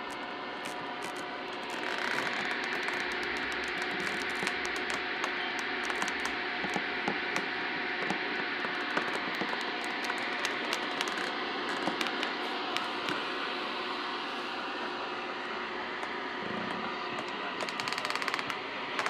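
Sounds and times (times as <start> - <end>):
crackles and clicks: 0.0 - 13.2, 16.0 - 19.0
steady hissing noise: 0.0 - 19.0.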